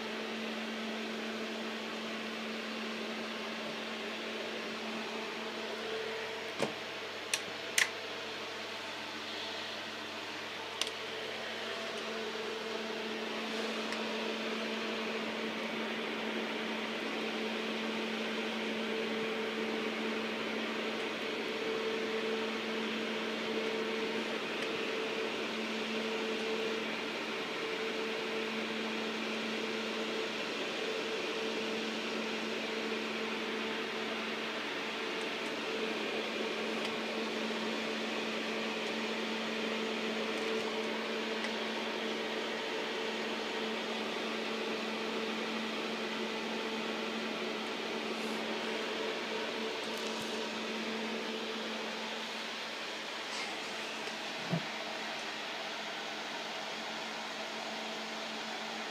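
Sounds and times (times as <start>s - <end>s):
cooling fan humming: 0.0s - 58.9s.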